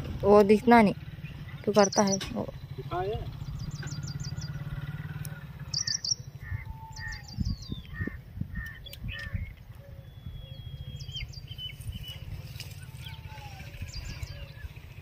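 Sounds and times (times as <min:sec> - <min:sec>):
birds chirping: 0:00.0 - 0:15.0
lower whistled bird notes: 0:01.2 - 0:05.0, 0:05.6 - 0:14.8.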